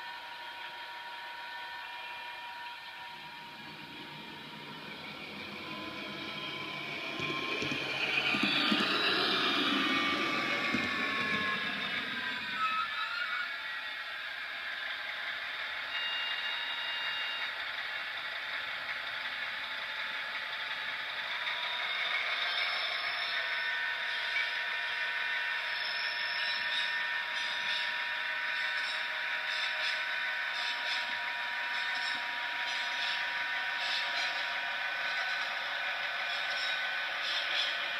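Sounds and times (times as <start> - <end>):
model locomotive diesel engine sound: 0.0 - 37.9.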